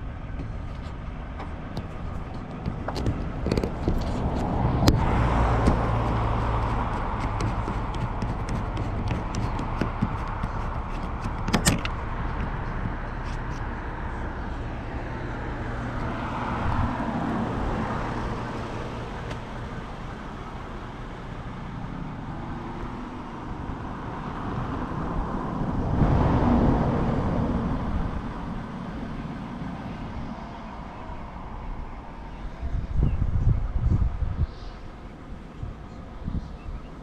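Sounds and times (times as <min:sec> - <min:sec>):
traffic rumble: 0:00.0 - 0:37.0
vehicle passing: 0:01.0 - 0:36.3.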